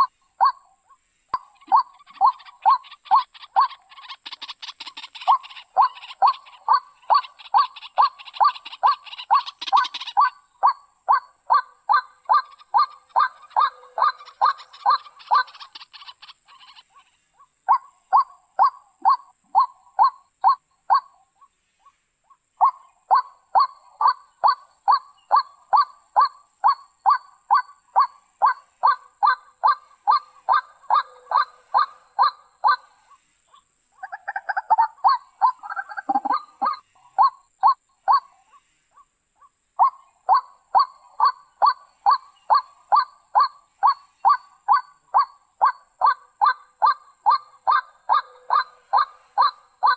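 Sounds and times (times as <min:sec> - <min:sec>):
bird harsh repeated calls: 0:00.0 - 0:49.9.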